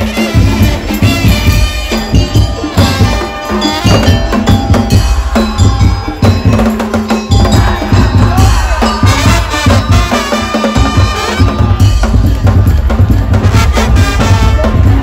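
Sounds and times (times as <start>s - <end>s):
heavy bass drum beat: 0.0s - 15.0s
percussion ensemble drumming: 0.0s - 15.0s.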